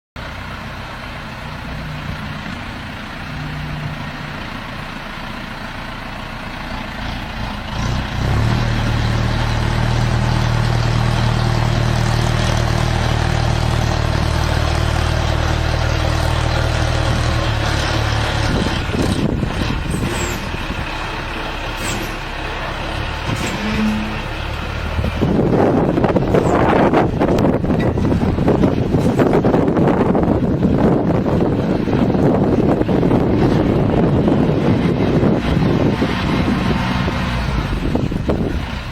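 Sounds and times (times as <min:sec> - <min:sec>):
heavy truck engine running: 0:00.2 - 0:38.9.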